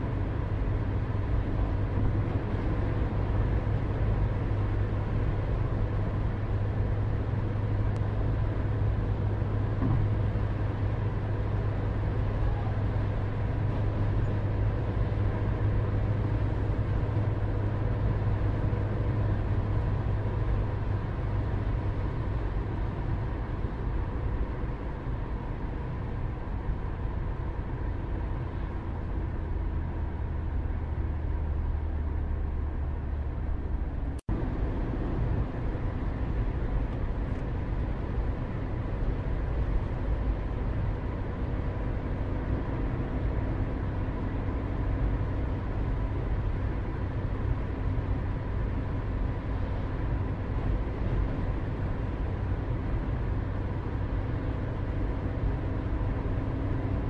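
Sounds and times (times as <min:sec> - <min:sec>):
low outdoor rumbling: 0:00.0 - 0:57.0.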